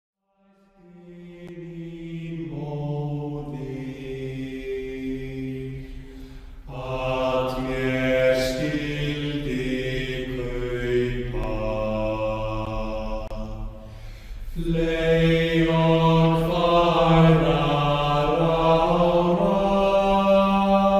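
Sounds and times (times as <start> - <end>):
slow chant-like background music: 0.3 - 20.9.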